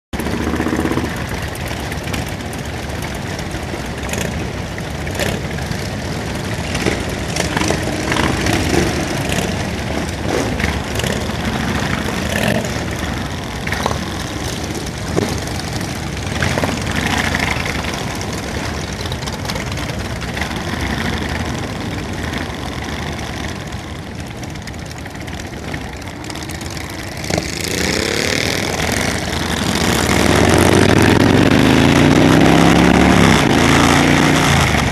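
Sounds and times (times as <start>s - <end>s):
motorcycle engine revving: 0.2s - 34.9s
motorcycle engines idling: 0.2s - 34.9s.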